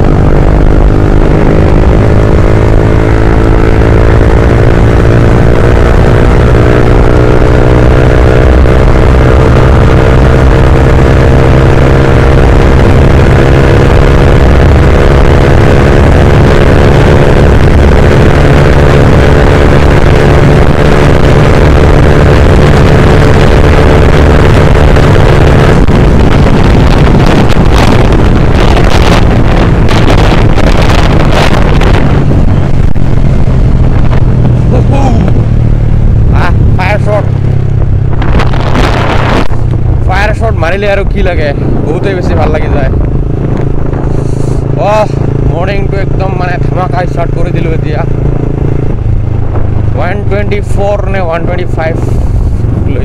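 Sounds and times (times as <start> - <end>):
motorcycle engine at speed: 0.0 - 53.0
wind buffeting microphone: 0.0 - 53.0.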